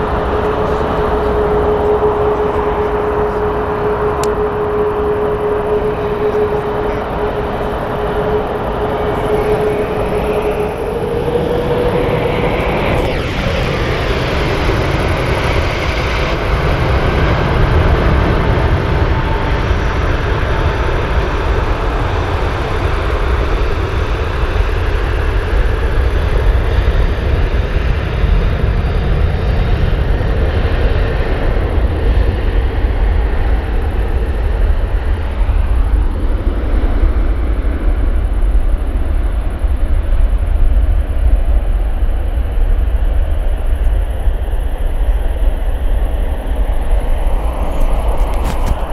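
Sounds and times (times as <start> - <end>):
jet engine whine falling in pitch: 0.0 - 48.9
jet engines roaring: 0.0 - 48.9.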